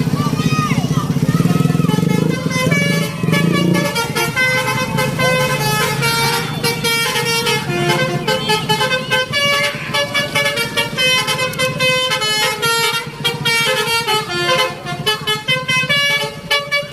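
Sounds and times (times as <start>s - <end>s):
bus musical horn playing a tune: 1.6s - 16.9s.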